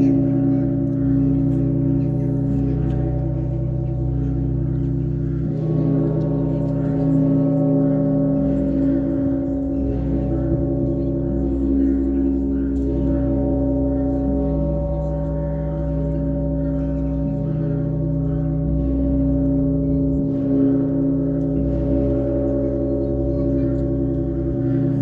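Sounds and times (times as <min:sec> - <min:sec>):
big bells humming: 0:00.0 - 0:25.0.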